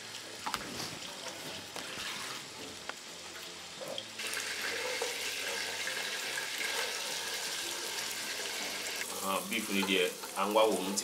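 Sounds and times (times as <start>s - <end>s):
beef sizzling in hot oil: 0.0s - 11.0s.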